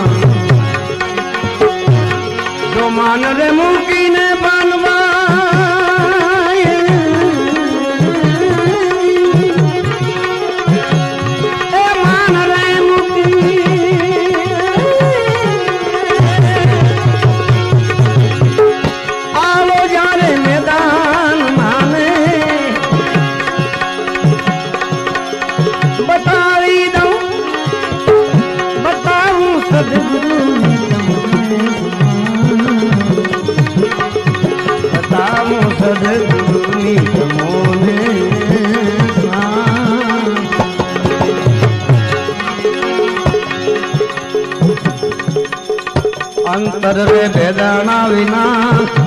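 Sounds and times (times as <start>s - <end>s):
tabla rhythm: 0.0s - 49.0s.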